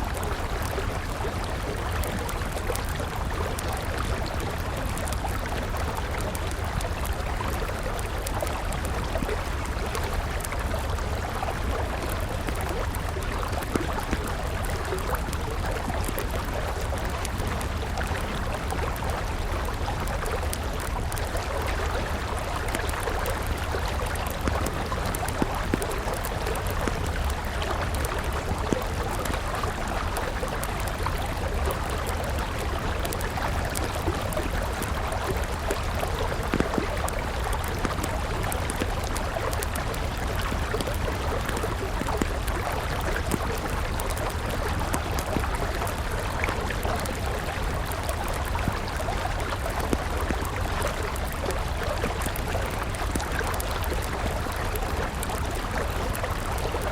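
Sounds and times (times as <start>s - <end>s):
campfire crackling and popping: 0.0s - 56.9s
river water flowing: 0.0s - 56.9s.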